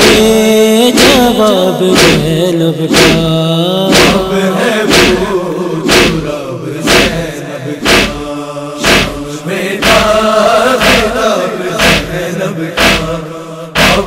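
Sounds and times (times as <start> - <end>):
sharp beat: 0.0 - 6.3, 6.9 - 11.2, 11.8 - 12.2, 12.8 - 13.2, 13.8 - 14.0
men chanting: 0.0 - 14.0.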